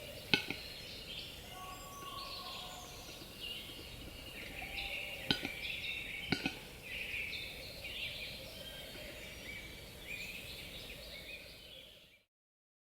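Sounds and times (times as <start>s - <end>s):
faint background hiss: 0.0s - 12.3s.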